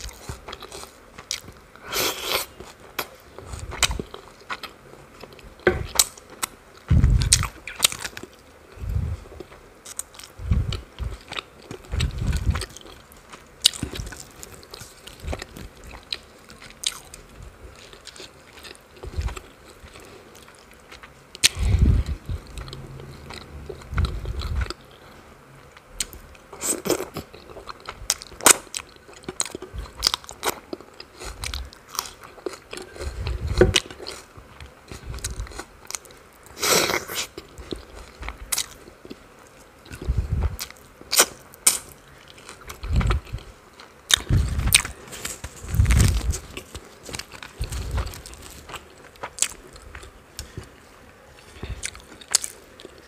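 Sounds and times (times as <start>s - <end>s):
chewing and wet mouth sounds: 0.0s - 25.2s, 26.0s - 53.0s.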